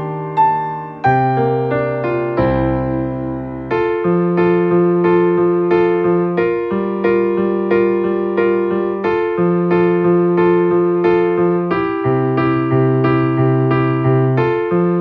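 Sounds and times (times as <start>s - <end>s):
electric piano playing chords: 0.0s - 15.0s.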